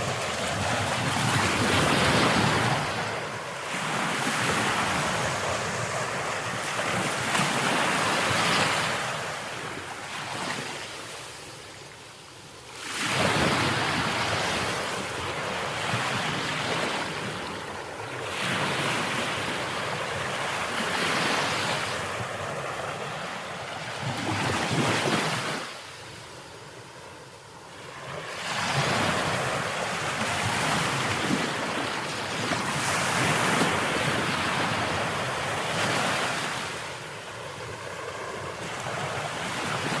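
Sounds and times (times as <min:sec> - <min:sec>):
ocean waves breaking: 0:00.0 - 0:11.4, 0:12.7 - 0:40.0.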